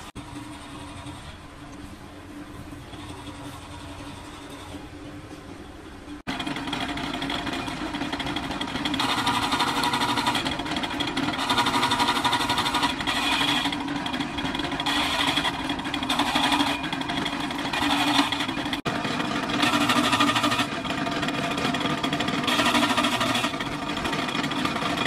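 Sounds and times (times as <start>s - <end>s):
harsh rasp of cable in rollers: 0.0s - 5.4s, 6.1s - 25.0s
cable stripping machine humming: 0.0s - 25.0s.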